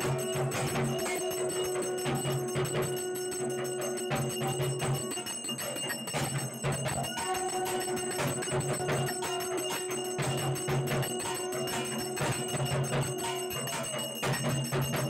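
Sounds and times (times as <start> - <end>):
hand bell ringing rapidly: 0.0 - 15.0
music: 0.0 - 15.0.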